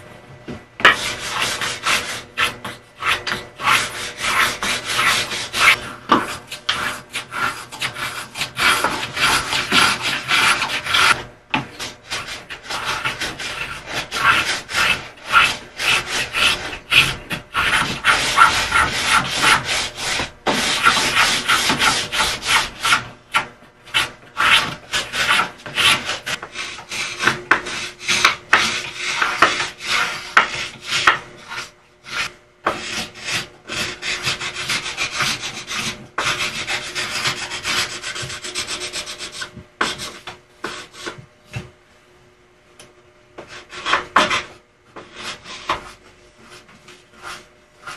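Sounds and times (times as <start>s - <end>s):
blade scraping wood: 0.8s - 41.6s, 43.4s - 47.9s.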